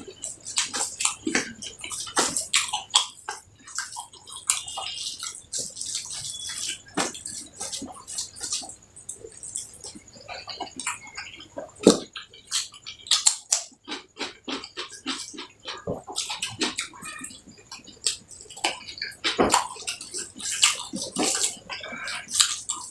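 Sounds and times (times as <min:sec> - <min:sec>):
person chewing and smacking: 0:00.0 - 0:22.9.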